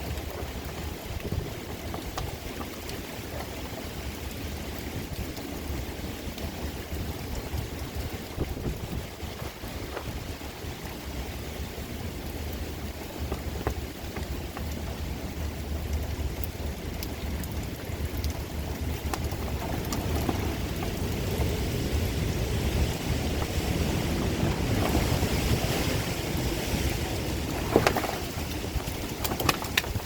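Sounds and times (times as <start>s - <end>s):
heavy rain: 0.0s - 30.0s
raindrops ticking: 0.0s - 30.0s
wind rumbling on microphone: 0.0s - 30.0s.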